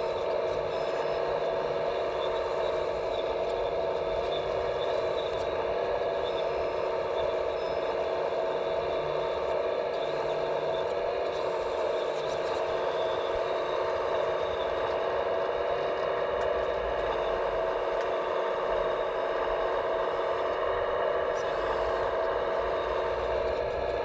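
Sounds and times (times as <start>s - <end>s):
electric motor and pump whine: 0.0s - 24.0s.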